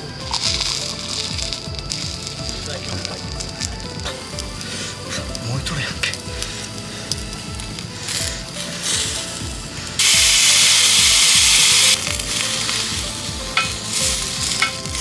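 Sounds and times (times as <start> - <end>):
background music with beat: 0.0 - 15.0
food sizzling on grill: 0.0 - 15.0.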